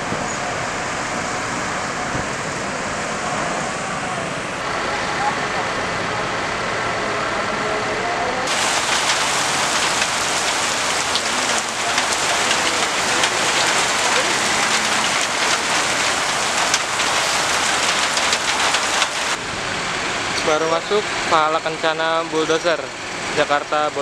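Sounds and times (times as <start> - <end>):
heavy rain on pavement: 0.0 - 6.3, 8.4 - 24.0.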